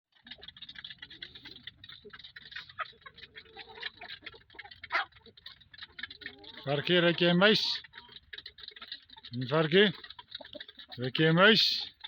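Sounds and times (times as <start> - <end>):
chickens pecking feed: 0.1 - 12.0.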